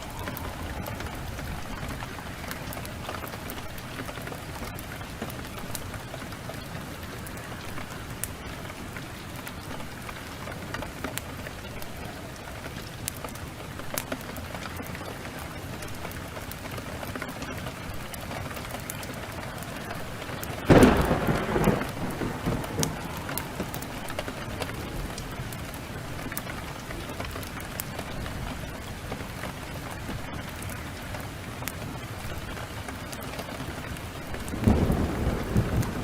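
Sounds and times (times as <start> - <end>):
heavy rain: 0.0 - 36.0
wood fire crackling: 0.0 - 36.0.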